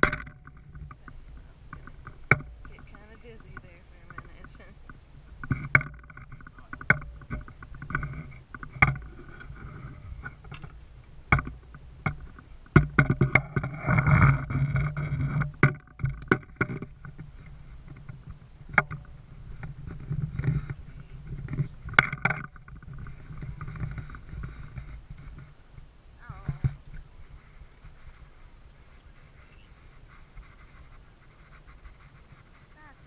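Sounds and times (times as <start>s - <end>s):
gear knocking in boat: 0.0s - 33.0s
low steady hum: 0.0s - 33.0s.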